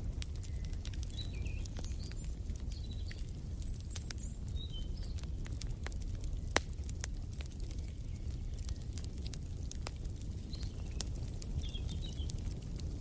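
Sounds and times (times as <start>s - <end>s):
fire rumbling: 0.0s - 13.0s
wood fire popping: 0.0s - 13.0s
small birds chirping: 0.1s - 13.0s.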